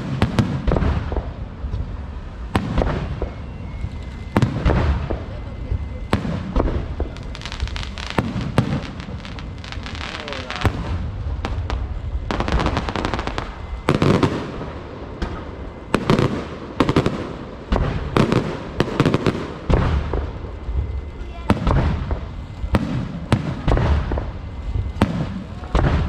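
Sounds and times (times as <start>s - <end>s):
firework bangs: 0.0s - 26.0s
fireworks crackling: 0.0s - 26.0s.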